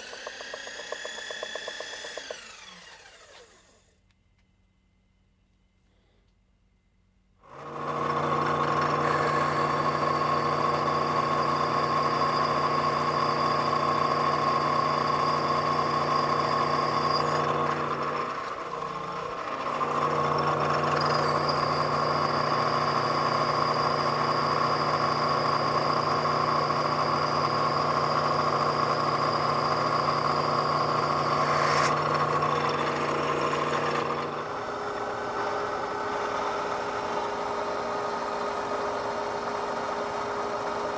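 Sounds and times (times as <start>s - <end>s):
milling machine spindle whine: 0.0s - 3.8s, 7.6s - 40.9s.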